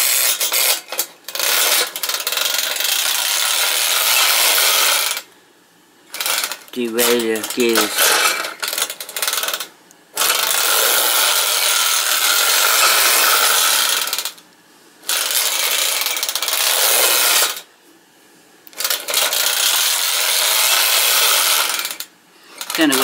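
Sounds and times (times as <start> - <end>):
clockwork motor whirring: 0.0 - 5.2, 6.1 - 14.4, 15.1 - 17.6, 18.8 - 22.0.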